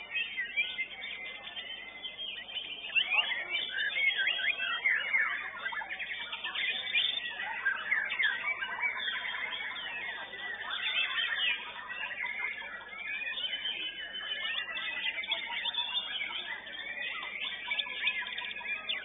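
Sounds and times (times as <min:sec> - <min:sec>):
bird whistles and chirps: 0:00.0 - 0:19.0.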